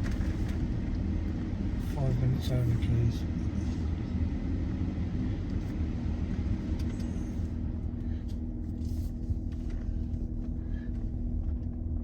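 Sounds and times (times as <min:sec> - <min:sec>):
car engine and road rumble: 0:00.0 - 0:12.0
steady low hum: 0:00.0 - 0:12.0.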